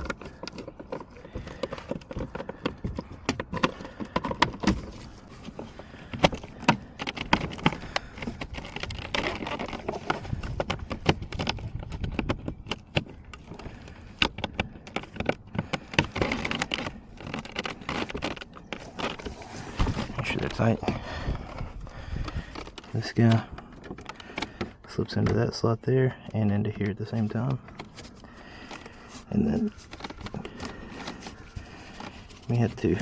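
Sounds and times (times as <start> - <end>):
clicks and rattles of car door parts: 0.0 - 33.0.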